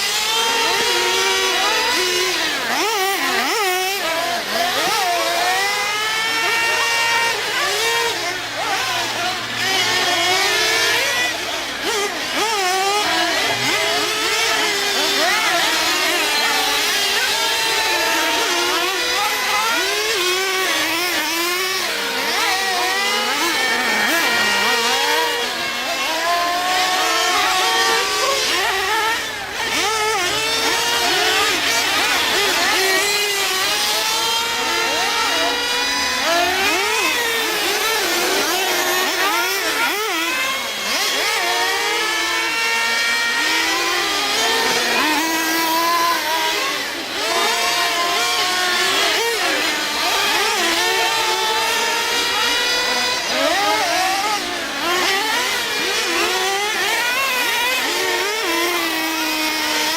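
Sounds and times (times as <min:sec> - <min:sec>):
rc truck engines revving: 0:00.0 - 0:59.9.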